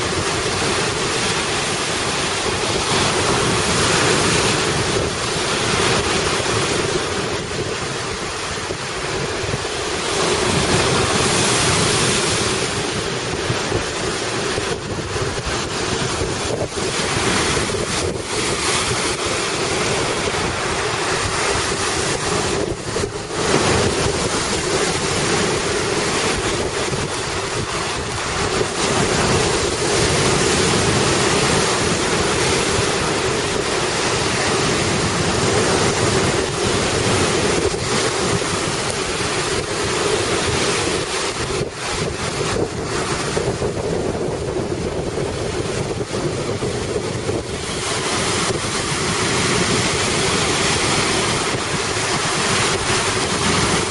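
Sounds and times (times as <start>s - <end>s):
waves crashing on shore: 0.0s - 53.9s
wind buffeting microphone: 0.0s - 53.9s.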